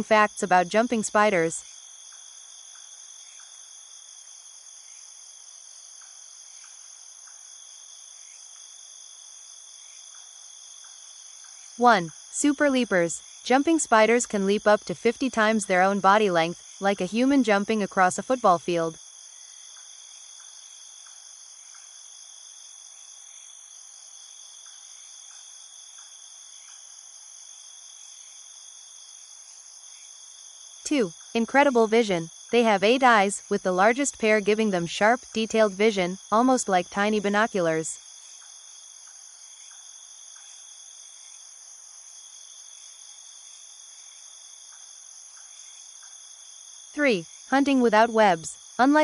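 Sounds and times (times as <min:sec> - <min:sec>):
crickets droning: 0:00.0 - 0:49.0
high-pitched insect chorus: 0:00.0 - 0:49.0.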